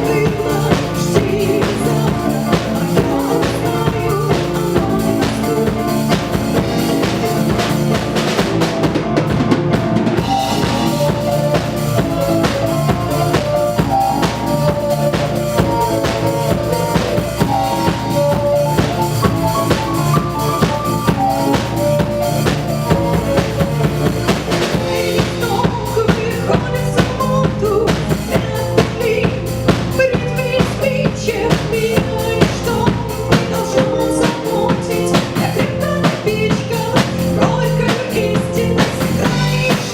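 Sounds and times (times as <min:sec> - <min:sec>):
drum kit beat: 0:00.0 - 0:39.9
live band playing: 0:00.0 - 0:39.9.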